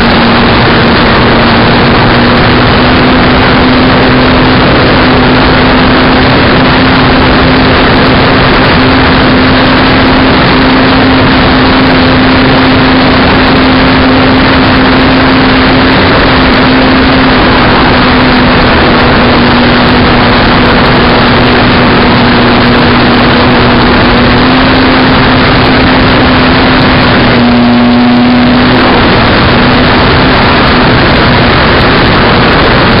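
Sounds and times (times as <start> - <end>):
model aircraft motor humming: 0.0 - 33.0
wind rush on microphone: 0.0 - 33.0.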